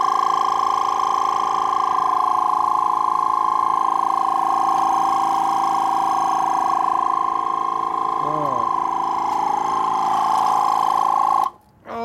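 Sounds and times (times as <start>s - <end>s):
tire inflator whining: 0.0s - 11.6s.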